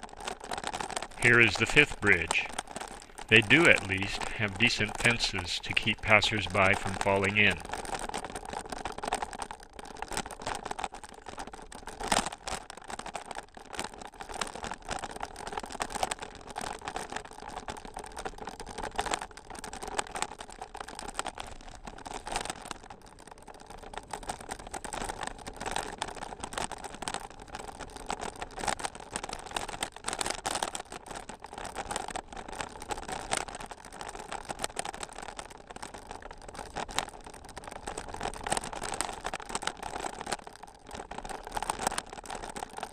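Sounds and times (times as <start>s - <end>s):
bicycle rattling on rough trail: 0.0s - 1.2s, 7.6s - 42.9s.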